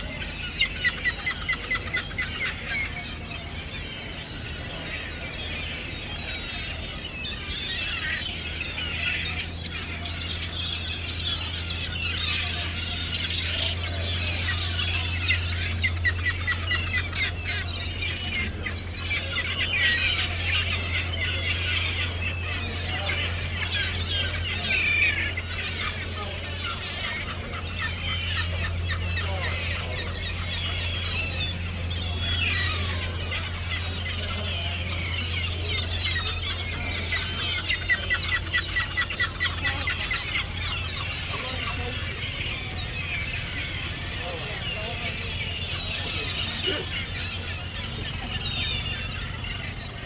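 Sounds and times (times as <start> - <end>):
gulls squawking: 0.0 - 50.0
machine hum: 0.0 - 50.0.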